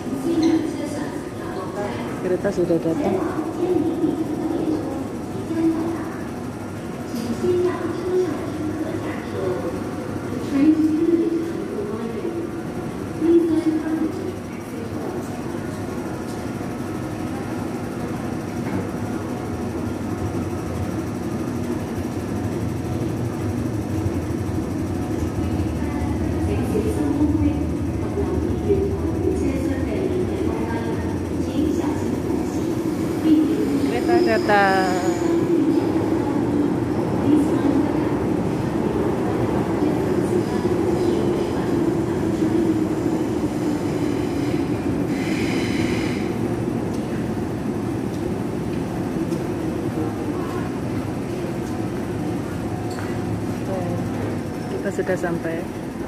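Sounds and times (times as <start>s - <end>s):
metro train rumble: 0.0s - 56.0s.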